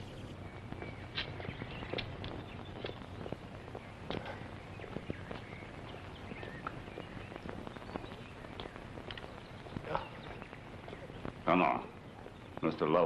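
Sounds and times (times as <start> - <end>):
film soundtrack hum and hiss: 0.0 - 13.0.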